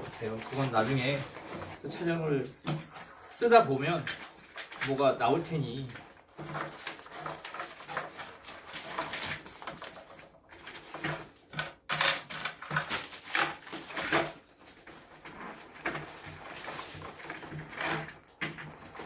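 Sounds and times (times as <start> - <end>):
rustling and scraping of bag: 0.0 - 11.6, 12.3 - 19.0.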